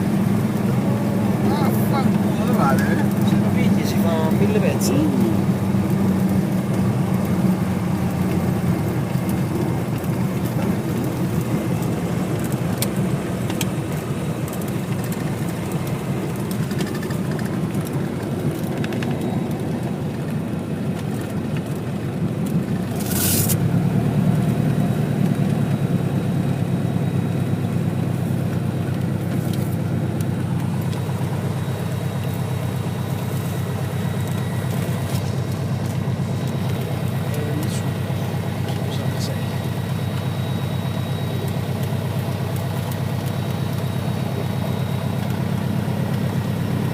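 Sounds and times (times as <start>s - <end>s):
aircraft engine running: 0.0s - 46.9s.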